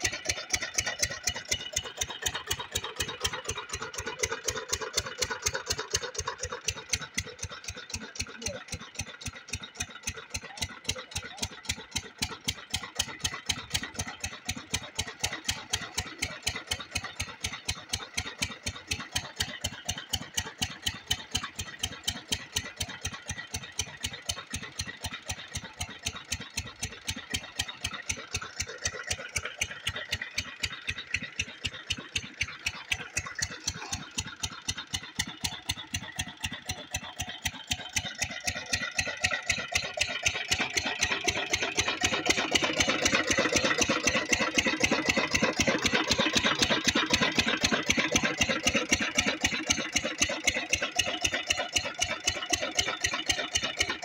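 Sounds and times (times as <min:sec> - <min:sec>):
diesel pump engine chugging: 0:00.0 - 0:54.0.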